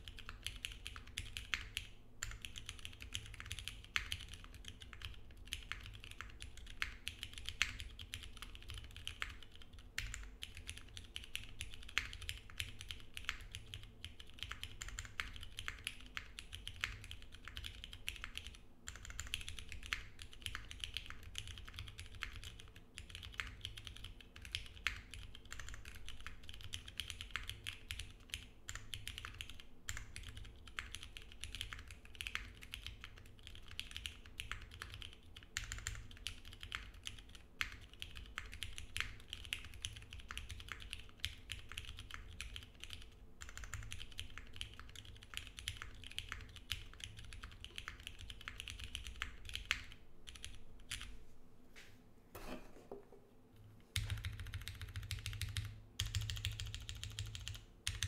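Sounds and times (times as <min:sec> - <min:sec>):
mechanical keyboard typing: 0:00.0 - 0:51.1, 0:54.0 - 0:58.0.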